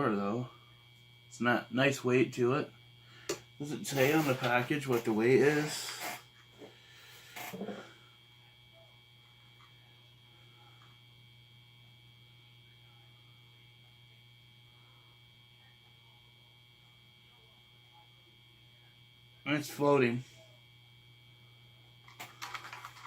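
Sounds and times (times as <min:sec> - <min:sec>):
electrical hum: 0:00.0 - 0:23.0
faint high whine: 0:00.0 - 0:23.0.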